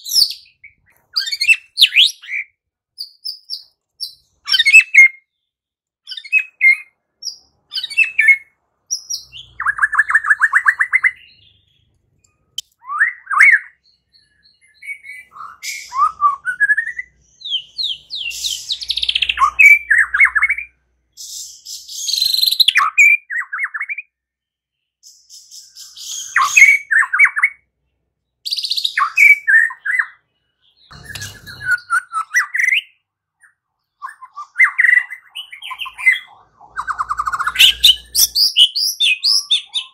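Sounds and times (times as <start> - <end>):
songbird singing whistles and trills: 0.0 - 27.7, 28.4 - 39.9.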